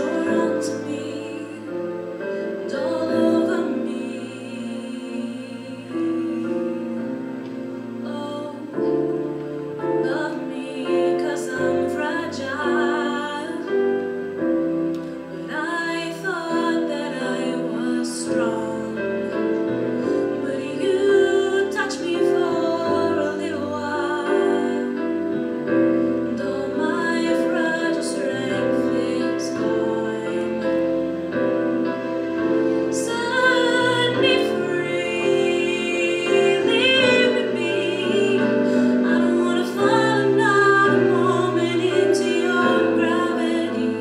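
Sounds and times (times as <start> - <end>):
woman singing a ballad: 0.0 - 31.2, 32.6 - 44.0
piano accompaniment: 0.0 - 44.0.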